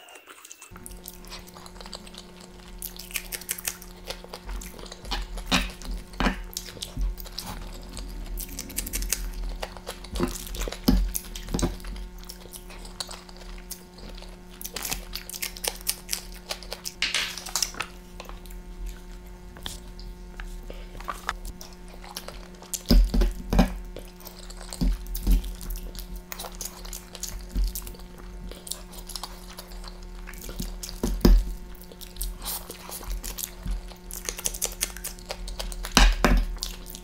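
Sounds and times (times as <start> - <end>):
wet chewing of noodles: 0.0 - 37.0.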